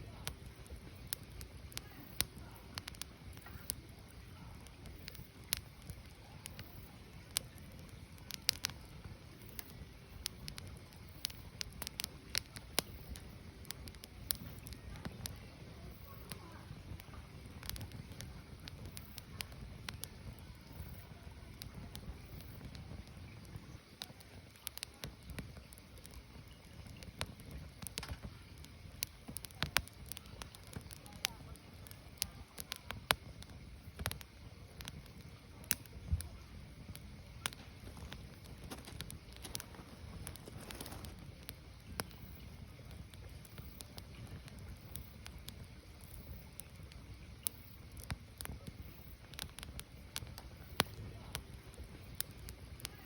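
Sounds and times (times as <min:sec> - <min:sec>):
firewood crackling and popping: 0:00.0 - 0:53.0
low fire rumble: 0:00.0 - 0:53.0.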